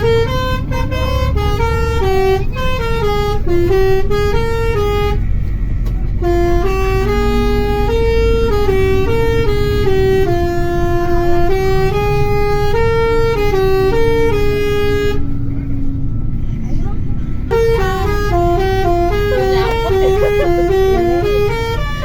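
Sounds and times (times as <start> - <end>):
bus engine and road rumble: 0.0 - 22.0
bus multi-tone air horn: 0.0 - 22.0.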